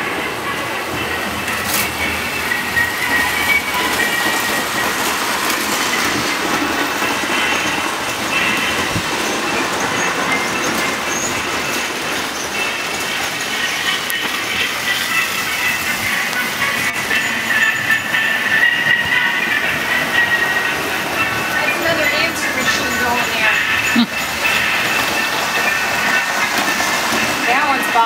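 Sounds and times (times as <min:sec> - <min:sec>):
high-pitched squeals: 0:00.0 - 0:28.0
toy train wheels on rails: 0:00.0 - 0:28.0.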